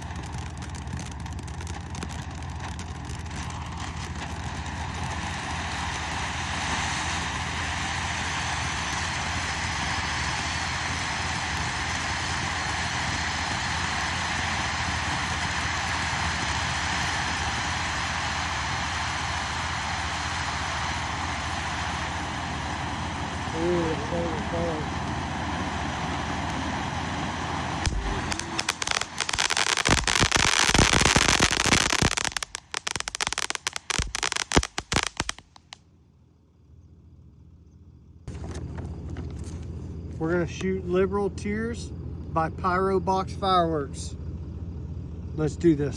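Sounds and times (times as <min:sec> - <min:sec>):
firework fountain hissing: 0:00.0 - 0:35.8, 0:38.3 - 0:39.6.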